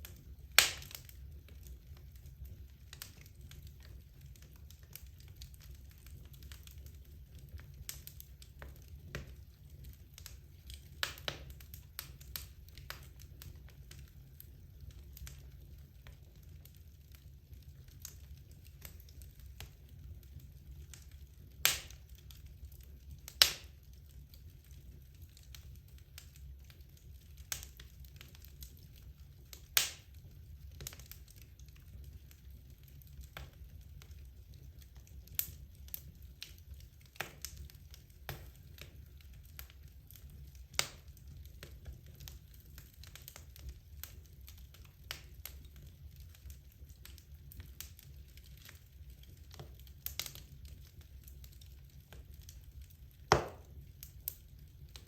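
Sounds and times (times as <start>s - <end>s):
fireplace logs crackling: 0.0s - 55.0s.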